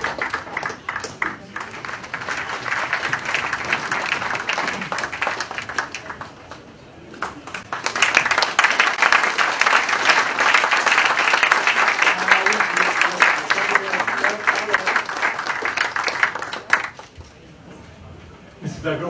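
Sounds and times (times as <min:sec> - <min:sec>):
audience applauding: 0:00.0 - 0:17.2.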